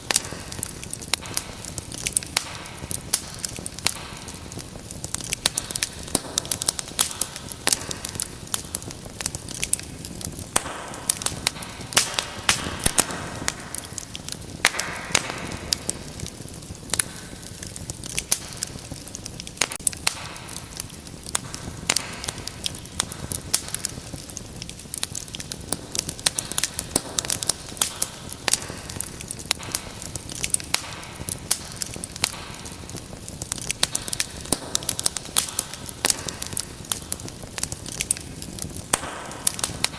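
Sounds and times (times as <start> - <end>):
soft hiss of flames: 0.0 - 39.9
wood fire crackling: 0.0 - 39.9.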